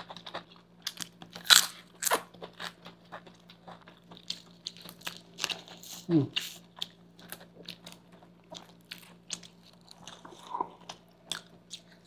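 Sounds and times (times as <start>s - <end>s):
air conditioner hum: 0.0s - 12.0s
crunching chips while chewing: 0.0s - 12.0s.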